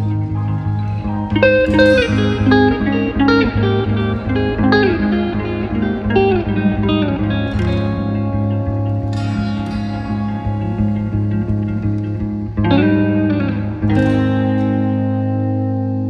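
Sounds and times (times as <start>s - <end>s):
guitar melody with bent notes: 0.0s - 16.0s
low accompaniment: 0.0s - 16.0s.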